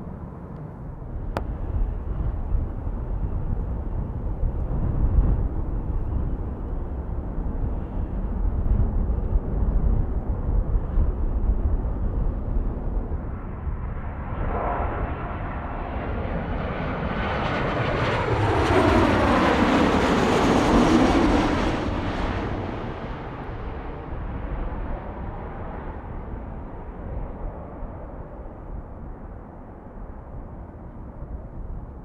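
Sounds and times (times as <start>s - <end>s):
jet airliner passing: 0.0s - 31.4s.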